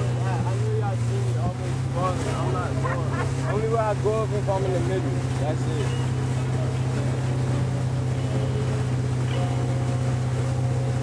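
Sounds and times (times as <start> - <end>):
motorboat engine droning: 0.0 - 11.0
rush of wind and water: 0.0 - 11.0.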